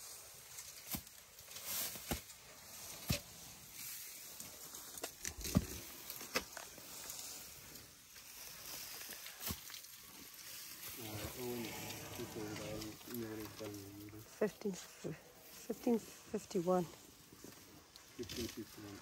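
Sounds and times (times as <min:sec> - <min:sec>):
rustling and snapping grass: 0:00.0 - 0:14.4, 0:17.0 - 0:19.0.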